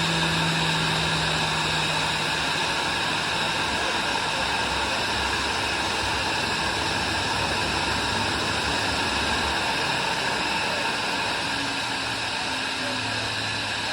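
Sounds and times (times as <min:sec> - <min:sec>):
jet engine idling hiss: 0:00.0 - 0:13.9.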